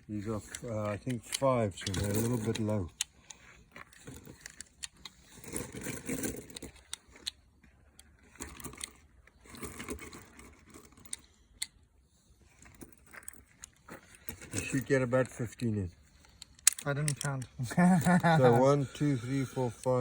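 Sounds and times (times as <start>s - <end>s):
handling rustle: 0.0s - 11.4s, 12.3s - 20.0s
metallic clicks of cartridges: 0.2s - 11.8s, 12.5s - 20.0s.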